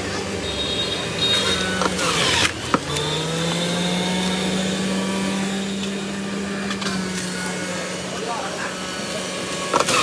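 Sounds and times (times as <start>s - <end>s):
blender motor running: 0.5s - 10.0s.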